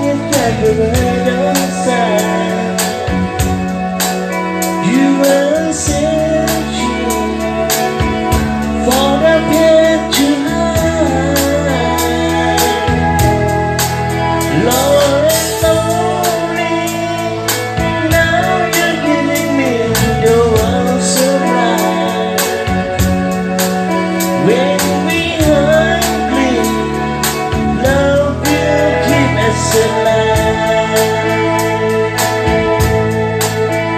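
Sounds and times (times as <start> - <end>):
band playing a song: 0.0 - 33.9
person singing: 0.0 - 33.9
steady drum beat: 0.0 - 33.9.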